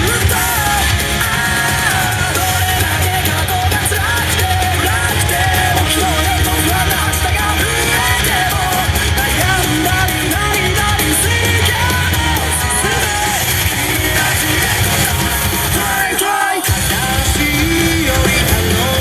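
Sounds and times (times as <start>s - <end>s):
loud dance music: 0.0s - 19.0s
people shouting: 0.0s - 19.0s.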